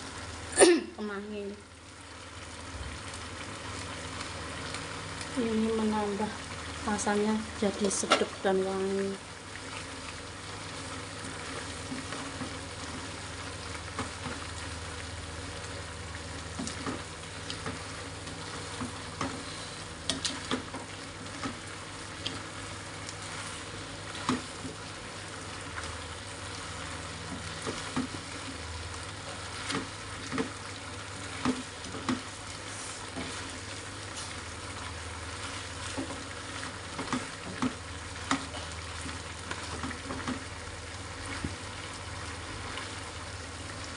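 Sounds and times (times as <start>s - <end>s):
food sizzling in a wok: 0.0s - 43.9s.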